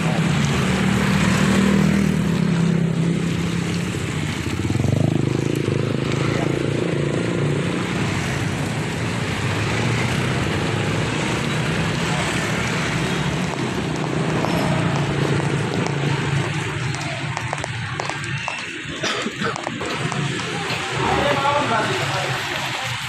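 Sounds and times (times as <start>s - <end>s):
road and wind noise: 0.0s - 23.0s.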